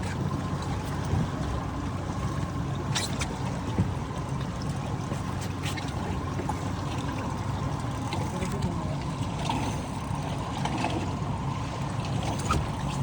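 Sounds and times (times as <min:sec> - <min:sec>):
boat engine rumbling: 0:00.0 - 0:13.0
water splashing against hull: 0:00.0 - 0:13.0.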